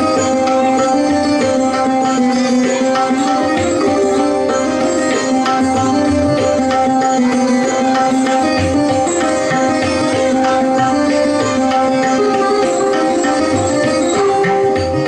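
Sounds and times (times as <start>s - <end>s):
sarod melody: 0.0s - 15.0s
tabla drumming: 0.0s - 15.0s.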